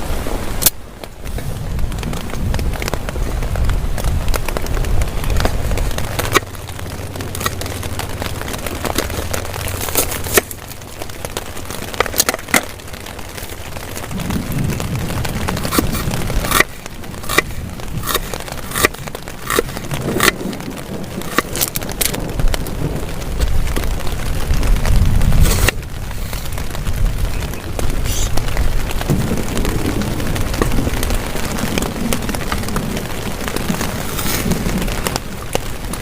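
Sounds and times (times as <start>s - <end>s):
steady rain: 0.0s - 36.0s
sharp crackles and taps: 0.6s - 36.0s
low rumble: 1.1s - 36.0s.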